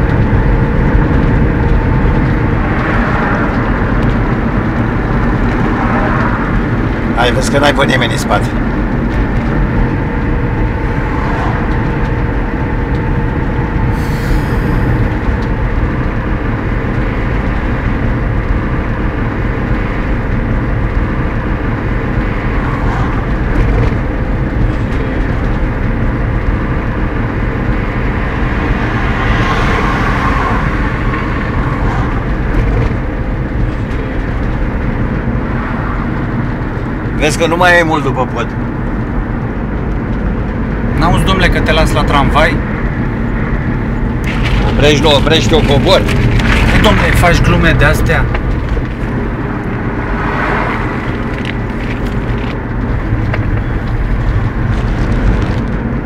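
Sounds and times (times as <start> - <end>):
road noise: 0.0 - 56.0
van engine: 0.0 - 56.0.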